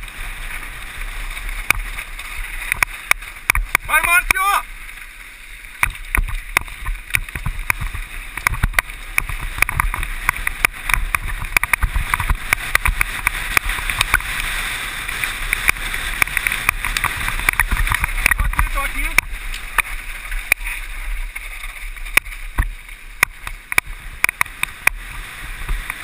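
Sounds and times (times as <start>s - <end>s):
bike rattling over bumps: 0.0s - 26.0s
tyres and wind rushing: 0.0s - 26.0s.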